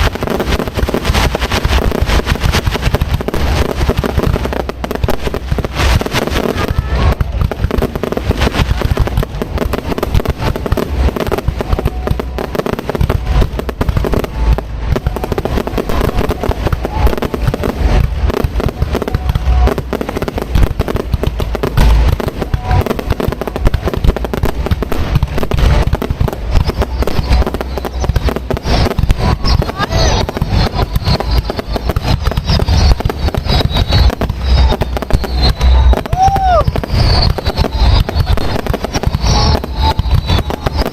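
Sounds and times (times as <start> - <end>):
fireworks shell bursts and crackles: 0.0 - 40.9.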